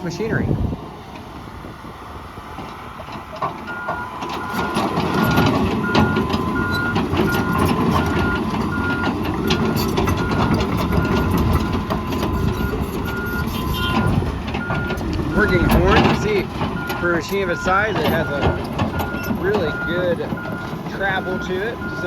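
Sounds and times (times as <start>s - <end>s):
diesel engine under load: 0.0s - 22.0s
steel tracks clanking: 0.0s - 22.0s
excavator travel alarm beeping: 2.8s - 22.0s.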